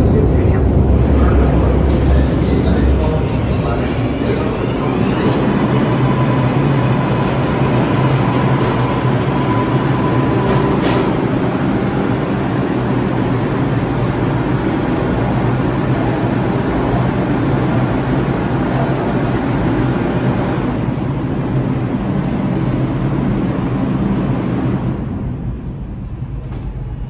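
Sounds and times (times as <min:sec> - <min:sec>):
subway train equipment humming: 0:00.0 - 0:27.0.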